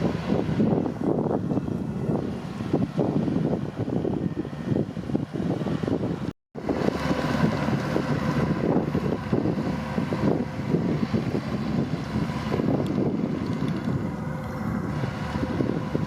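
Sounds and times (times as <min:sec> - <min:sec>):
combine harvester rumbling: 0:00.0 - 0:16.0
wind buffeting microphone: 0:00.0 - 0:16.0.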